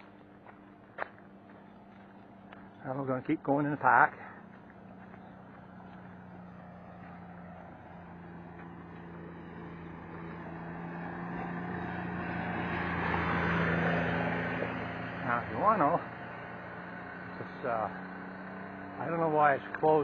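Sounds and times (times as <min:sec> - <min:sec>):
road and wind noise: 0:00.0 - 0:20.0
vehicle engine hum: 0:00.0 - 0:20.0.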